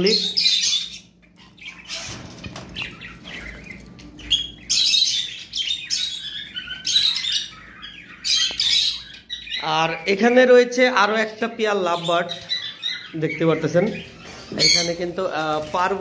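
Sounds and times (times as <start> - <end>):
parrots chirping and chattering: 0.0 - 16.0.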